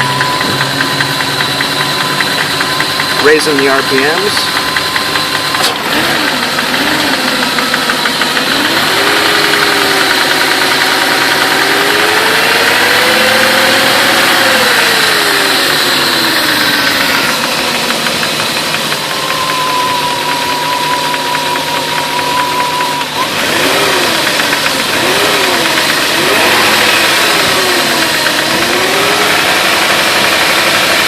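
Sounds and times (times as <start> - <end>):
car engine revving: 0.0 - 31.0
engine lifter ticking: 0.0 - 31.0.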